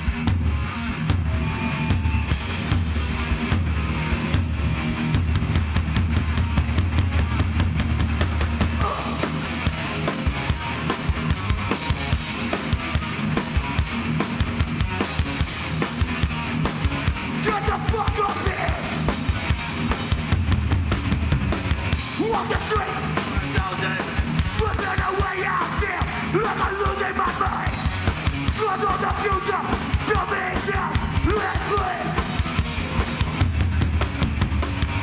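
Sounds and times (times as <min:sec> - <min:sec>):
low guitar and bass rumble: 0:00.0 - 0:35.0.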